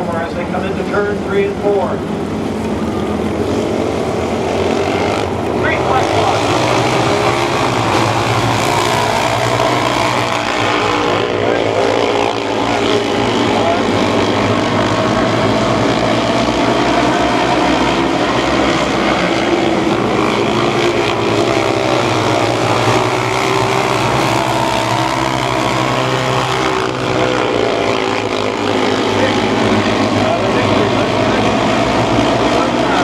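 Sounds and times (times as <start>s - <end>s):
small race car engines buzzing: 0.0s - 33.0s.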